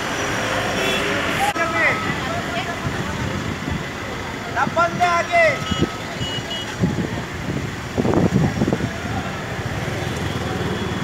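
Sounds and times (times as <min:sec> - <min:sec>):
idling vehicles: 0:00.8 - 0:11.0.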